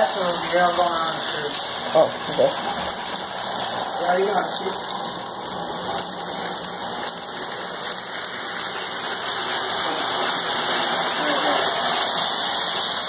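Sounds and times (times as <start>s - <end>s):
model train whirring rumble: 0.0s - 13.0s.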